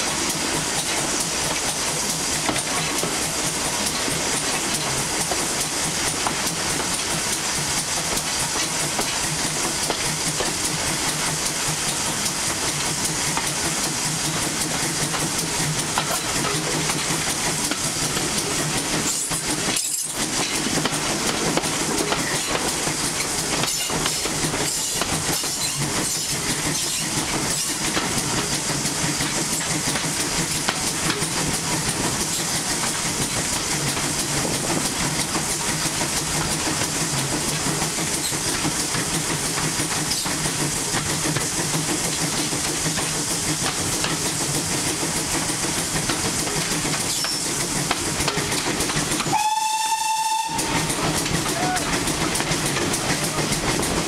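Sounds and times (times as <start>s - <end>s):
steam locomotive exhaust: 0.0s - 54.0s
train wheels on rails: 0.0s - 54.0s.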